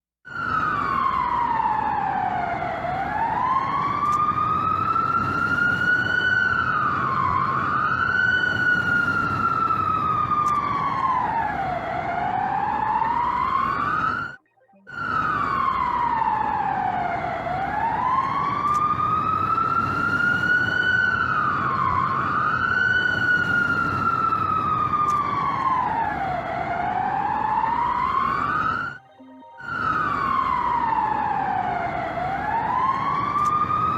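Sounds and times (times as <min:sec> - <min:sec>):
warning siren wailing: 0:00.3 - 0:33.9.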